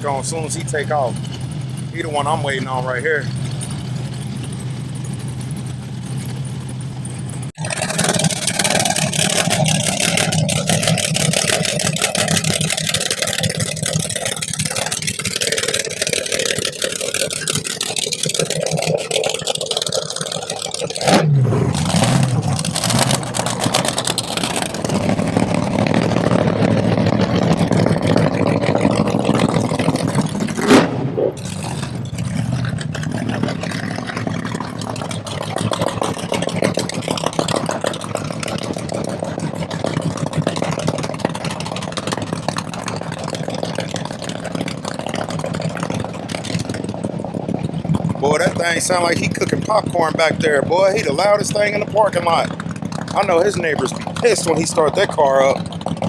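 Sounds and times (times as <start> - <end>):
car engine with popping exhaust: 0.0 - 56.0.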